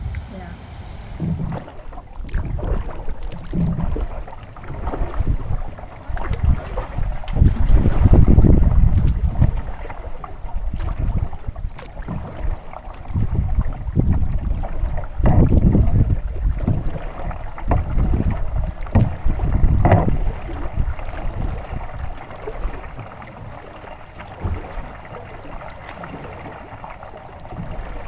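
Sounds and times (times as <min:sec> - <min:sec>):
paddle splashing in river water: 0:00.0 - 0:28.0
wind rumble on microphone: 0:00.0 - 0:28.0.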